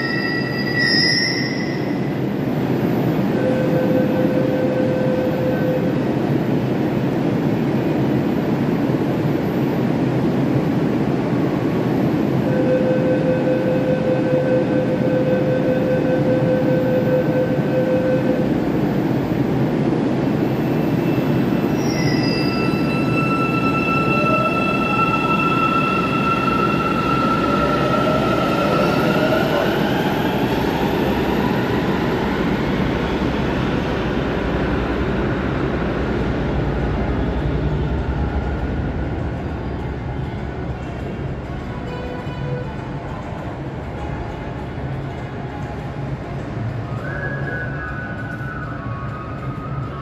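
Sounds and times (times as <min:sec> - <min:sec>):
high steady whines: 0:00.0 - 0:40.3
train rumble and hum: 0:00.0 - 0:50.0.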